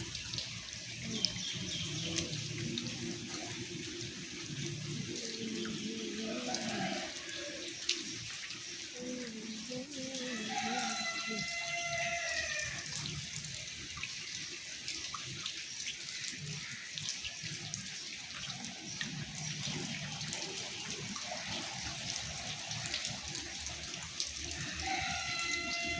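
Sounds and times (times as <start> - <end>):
heavy rain falling: 0.0 - 15.5, 16.2 - 25.9
water running and dripping: 0.0 - 25.9.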